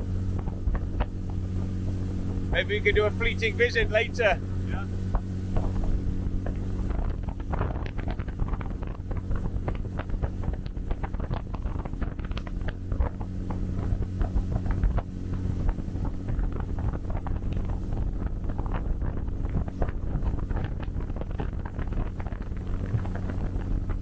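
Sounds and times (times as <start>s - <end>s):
motorboat engine running: 0.0s - 24.0s
wind buffeting microphone: 0.0s - 24.0s.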